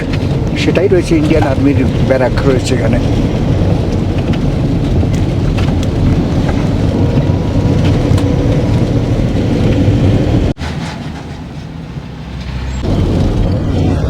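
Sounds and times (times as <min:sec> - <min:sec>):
small rattles and clicks: 0:00.0 - 0:11.3
vehicle driving rumble: 0:00.0 - 0:14.0.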